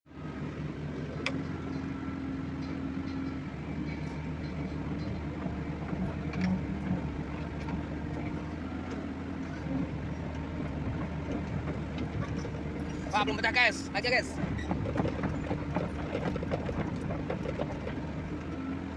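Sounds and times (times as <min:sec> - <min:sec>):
excavator engine droning: 0:00.1 - 0:18.9.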